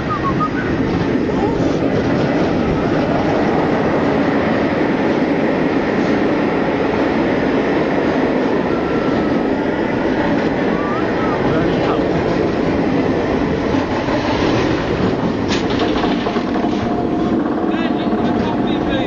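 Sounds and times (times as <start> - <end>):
roller coaster track and wheel rush: 0.0 - 19.0.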